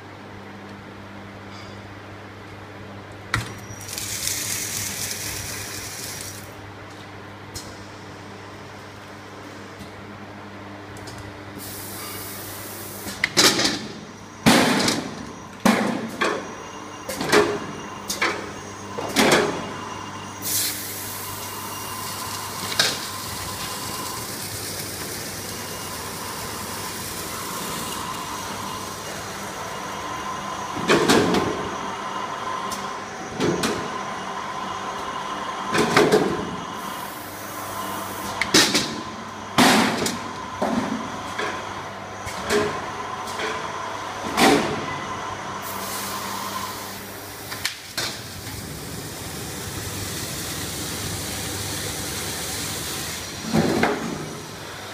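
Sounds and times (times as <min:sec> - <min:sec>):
machine humming and whining: 0:00.0 - 0:54.9.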